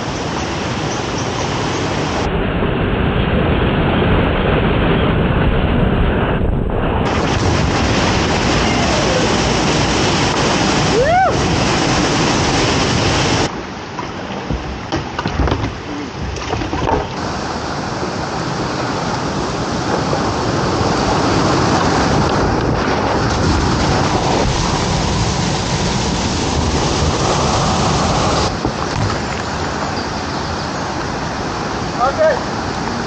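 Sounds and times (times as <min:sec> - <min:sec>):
moving water rushing: 0:00.0 - 0:02.3, 0:06.9 - 0:33.0
waterfall roaring: 0:00.0 - 0:02.3, 0:07.0 - 0:33.0.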